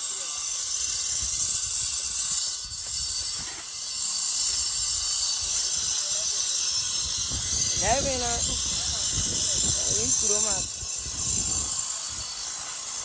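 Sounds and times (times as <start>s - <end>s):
steady loud hiss: 0.0s - 13.0s.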